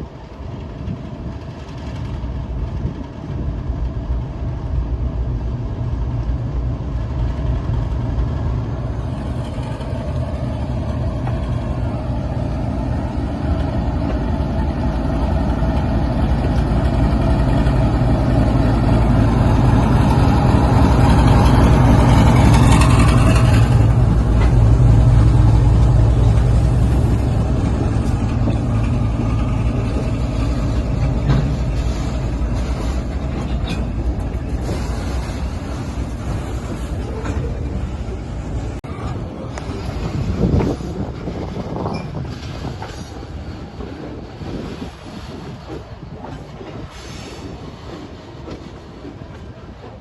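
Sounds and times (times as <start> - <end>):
locomotive engine rumble: 0.0 - 50.0.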